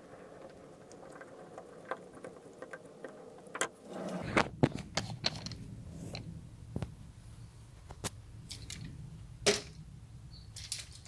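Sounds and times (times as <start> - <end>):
handling noise: 0.0 - 11.0.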